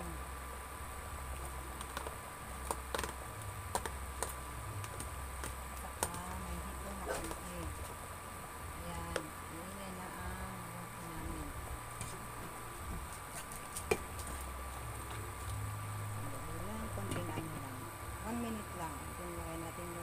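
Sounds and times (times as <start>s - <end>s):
induction cooktop humming: 0.0s - 20.0s.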